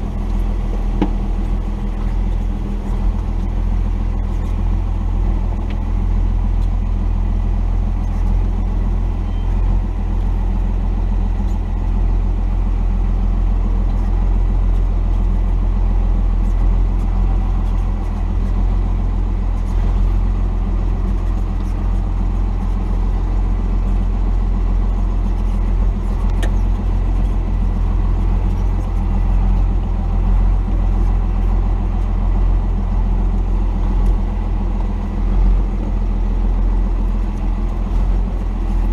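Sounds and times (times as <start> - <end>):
diesel truck engine drone: 0.0 - 38.9.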